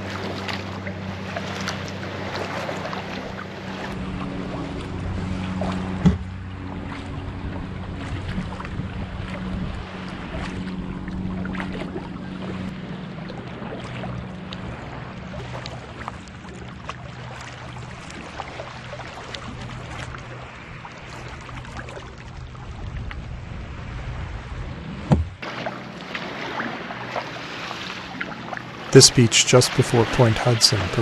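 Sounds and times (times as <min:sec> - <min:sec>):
low steady hum: 0:00.0 - 0:31.0
water splashing around paddle: 0:00.0 - 0:31.0.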